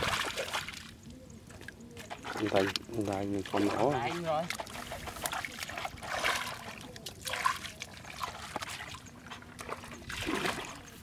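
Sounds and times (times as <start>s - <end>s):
splashing in muddy water: 0.0s - 11.0s.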